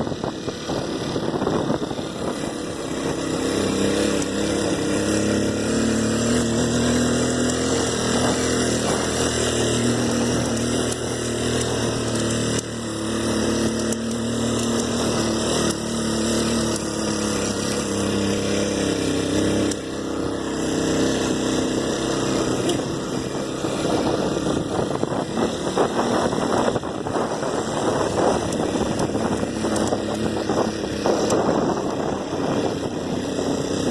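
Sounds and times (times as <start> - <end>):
motorcycle engine running: 0.0 - 33.9
wind noise on microphone: 0.0 - 33.9.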